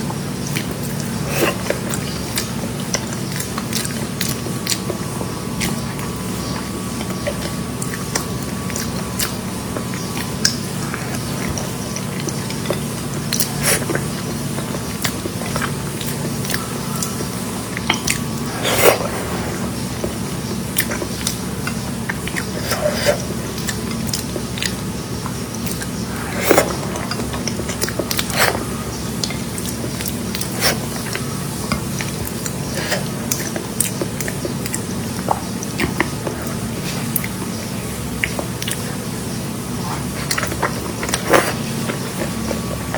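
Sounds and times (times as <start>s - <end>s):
chewing and biting: 0.0s - 42.9s
steady low hum: 0.0s - 42.9s.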